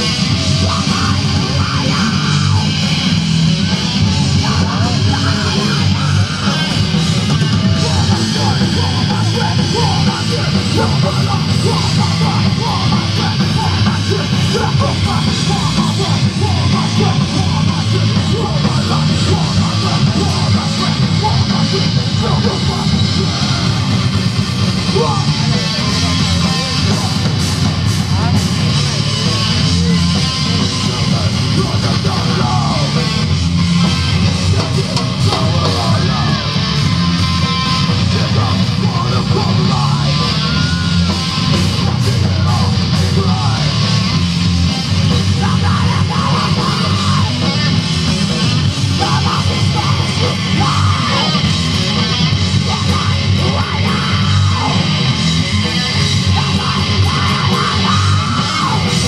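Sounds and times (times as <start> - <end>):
heavy metal band playing live: 0.0 - 59.0
melodic guitar line bending: 0.0 - 59.0.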